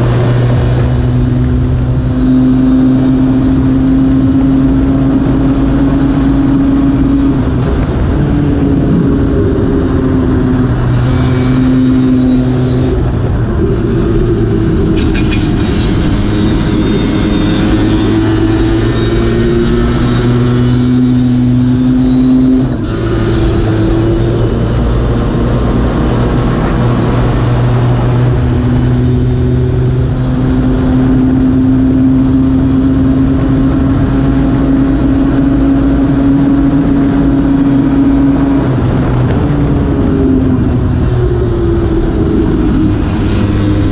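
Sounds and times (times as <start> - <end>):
scooter engine accelerating: 0.0 - 43.9.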